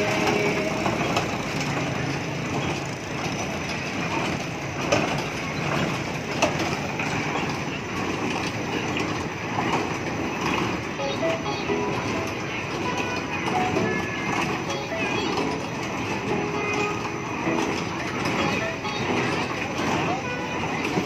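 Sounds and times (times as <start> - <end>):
carousel mechanical rumble: 0.0 - 21.0.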